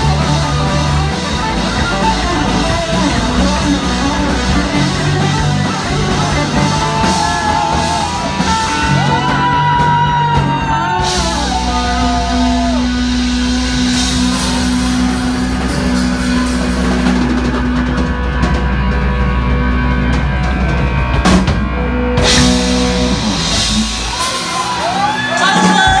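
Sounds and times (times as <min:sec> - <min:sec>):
bending electric guitar lead: 0:00.0 - 0:26.0
live rock band: 0:00.0 - 0:26.0.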